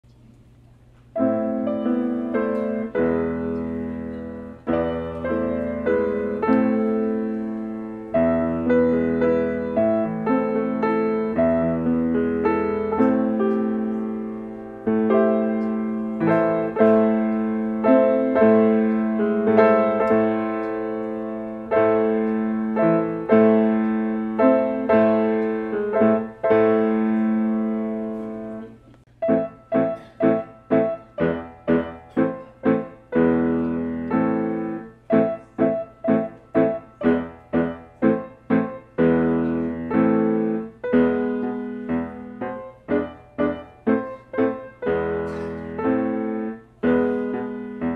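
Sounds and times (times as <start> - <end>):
solo piano playing: 1.1 - 47.9.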